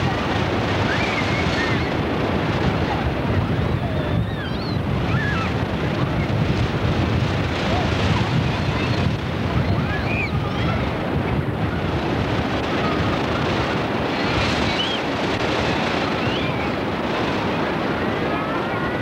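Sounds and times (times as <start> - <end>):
ocean surf breaking: 0.0 - 19.0
wind rumbling on microphone: 0.0 - 19.0.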